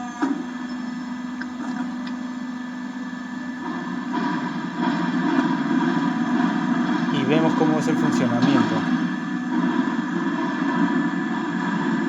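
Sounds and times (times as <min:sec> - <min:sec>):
machine motor and pump humming: 0:00.0 - 0:12.0.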